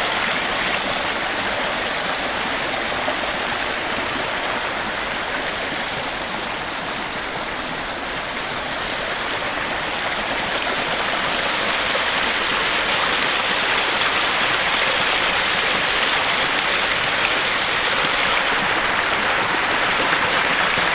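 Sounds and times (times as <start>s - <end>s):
brook splashing over stones: 0.0s - 20.9s.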